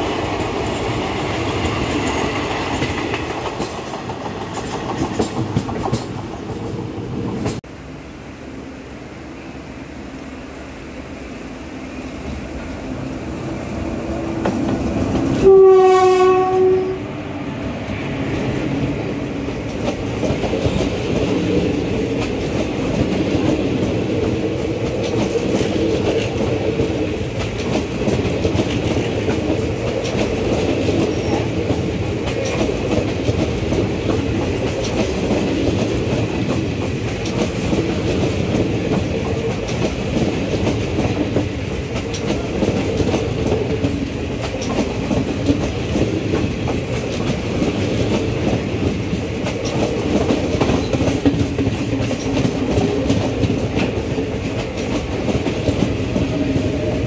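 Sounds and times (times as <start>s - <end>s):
train coaches passing: 0.0s - 57.0s.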